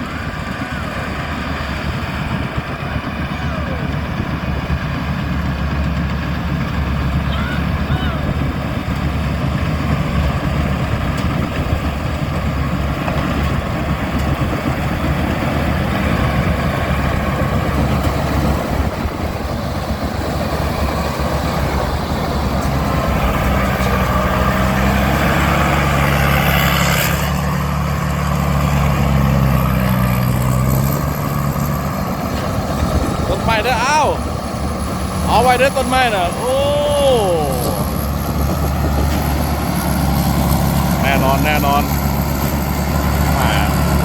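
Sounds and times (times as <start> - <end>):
combine harvester engine running: 0.0 - 44.0.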